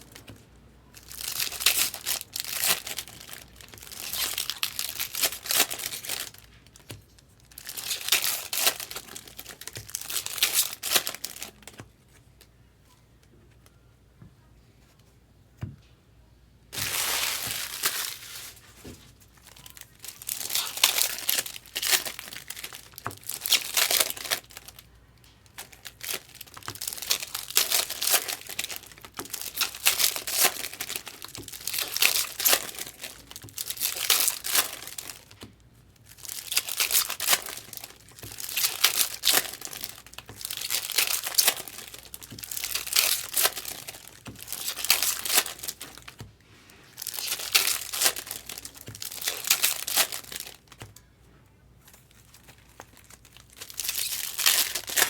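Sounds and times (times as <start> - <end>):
foil wrappers crinkling and tearing: 0.0 - 12.2, 16.7 - 51.1, 51.8 - 55.0.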